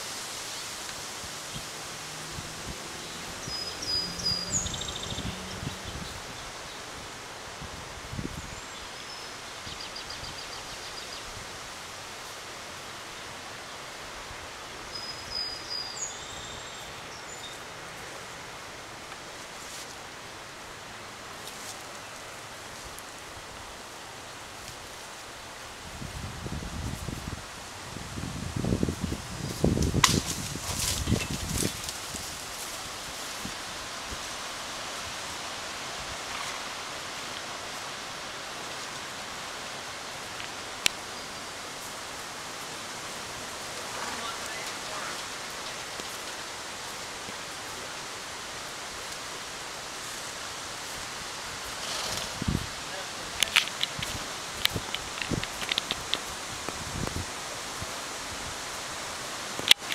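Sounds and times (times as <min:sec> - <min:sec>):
outdoor ambience hiss: 0:00.0 - 0:59.9
rustling leaves: 0:00.0 - 0:59.9
wind: 0:00.0 - 0:59.9.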